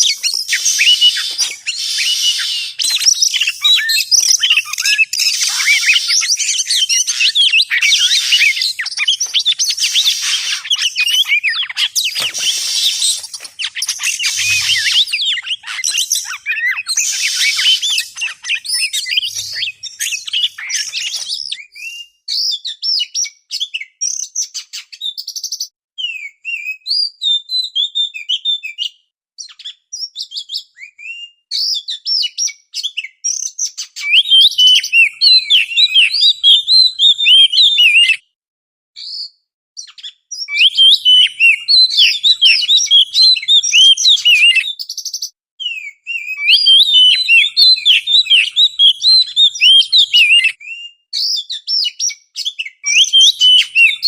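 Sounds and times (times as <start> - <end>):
bird song chirps and whistles: 0.0 - 38.2, 39.0 - 54.0.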